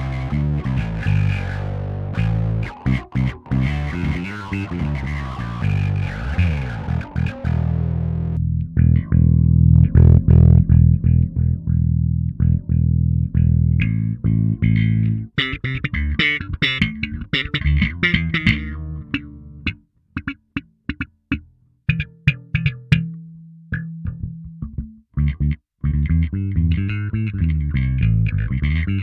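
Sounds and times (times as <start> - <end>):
filtered electric bass notes: 0.0 - 29.0.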